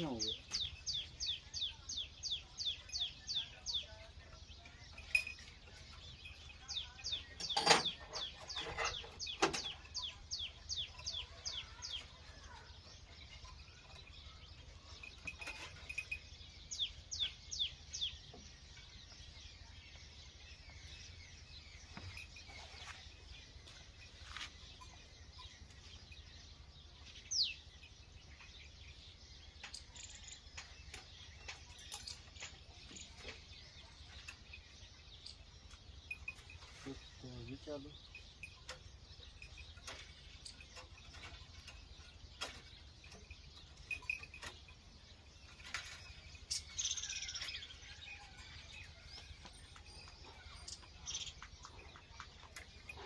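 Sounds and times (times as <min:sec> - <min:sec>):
small bird chirping: 0:00.0 - 0:53.0.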